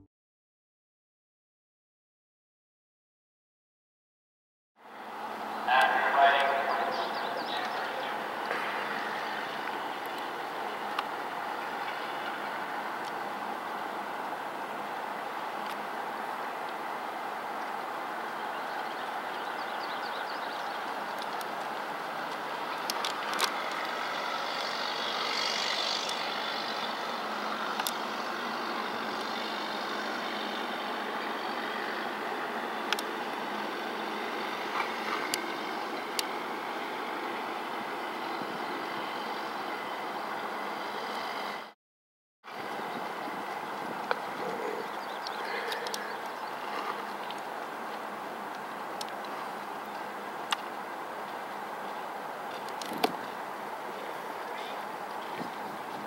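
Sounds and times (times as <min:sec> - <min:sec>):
outdoor background noise: 0:04.8 - 0:41.8, 0:42.4 - 0:56.0.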